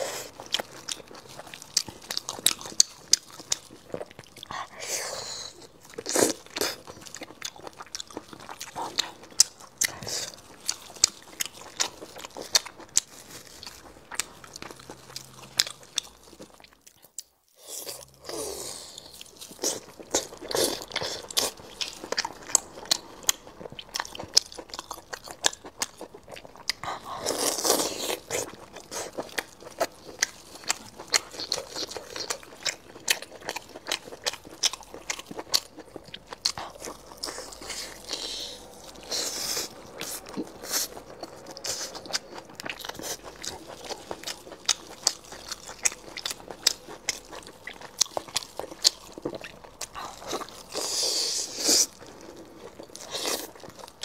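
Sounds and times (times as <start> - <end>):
crunchy biting and wet chewing: 0.0 - 54.0.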